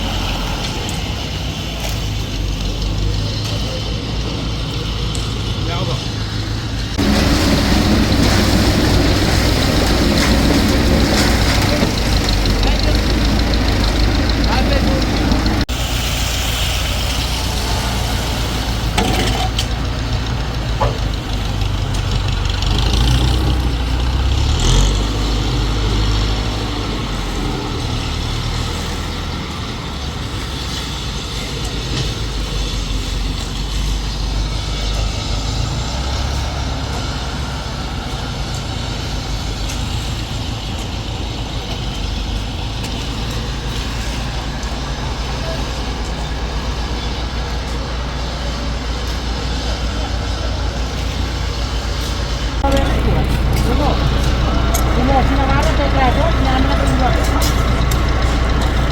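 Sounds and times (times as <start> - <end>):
machinery engine low drone: 0.0 - 58.9.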